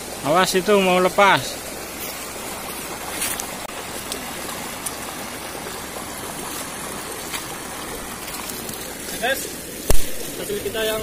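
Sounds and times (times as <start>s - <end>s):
river running over boulders: 0.0s - 11.0s.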